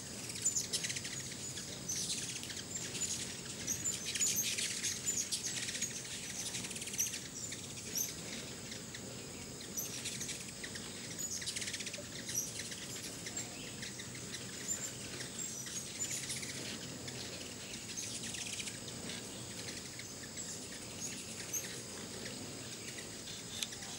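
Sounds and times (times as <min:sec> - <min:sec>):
hummingbirds chipping and twittering: 0:00.0 - 0:23.9.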